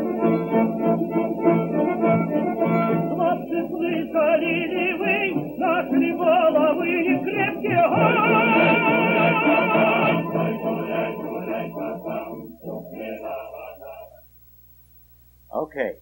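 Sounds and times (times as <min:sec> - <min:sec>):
music with singing voice: 0:00.0 - 0:14.2.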